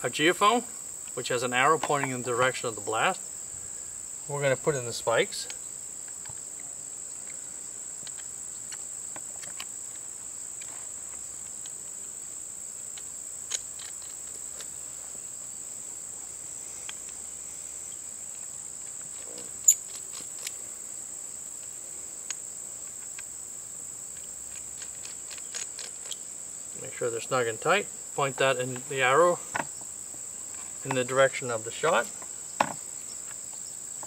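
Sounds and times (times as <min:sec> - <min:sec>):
insect chorus: 0:00.0 - 0:34.0.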